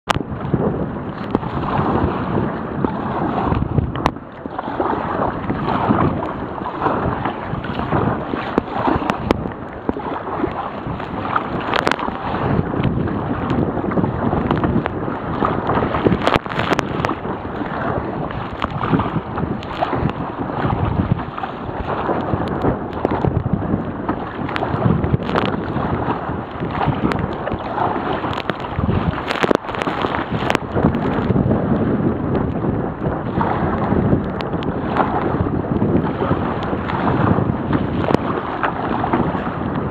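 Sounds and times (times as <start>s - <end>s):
water splashing: 0.0s - 31.4s, 33.2s - 39.9s
wind rushing over camera: 0.0s - 39.9s.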